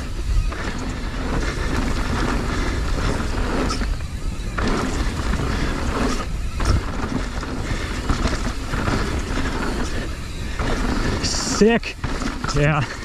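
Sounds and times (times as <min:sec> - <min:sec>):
bike rattling: 0:00.0 - 0:13.0
bike tyres rolling on dirt: 0:00.0 - 0:13.0
wind rumble on microphone: 0:00.0 - 0:13.0.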